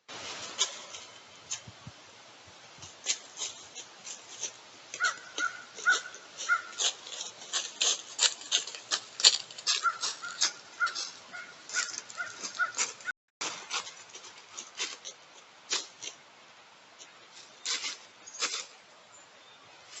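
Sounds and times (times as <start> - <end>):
rustles: 0.0 - 20.0.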